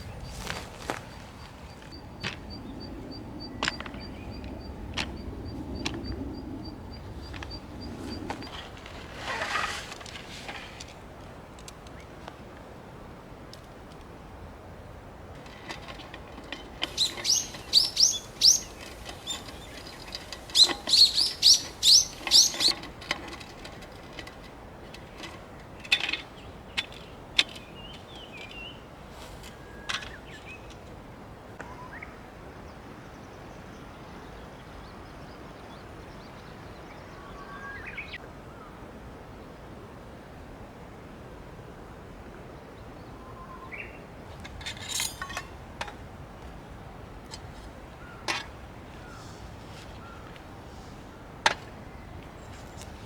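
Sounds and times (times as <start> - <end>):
wild birds singing: 0.0 - 12.6, 14.2 - 39.6, 42.3 - 53.0
steady background hiss: 0.0 - 53.0.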